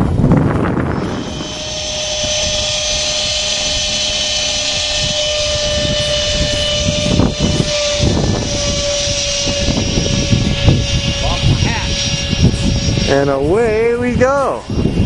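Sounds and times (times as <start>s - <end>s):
model airplane motor whine: 0.0s - 15.0s
wind rumbling on microphone: 0.0s - 15.0s.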